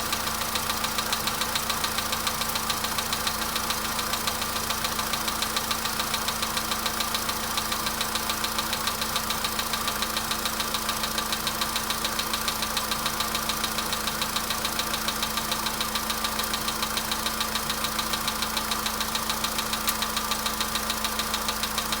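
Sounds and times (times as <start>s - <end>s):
car engine idling with knock: 0.0s - 22.0s.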